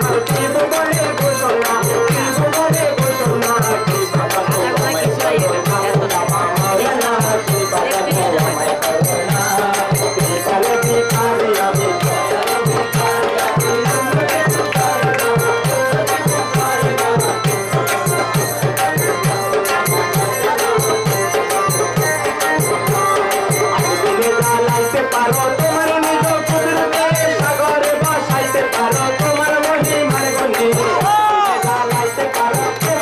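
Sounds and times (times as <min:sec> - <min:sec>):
hand drum beat: 0:00.0 - 0:33.0
person singing: 0:00.0 - 0:33.0.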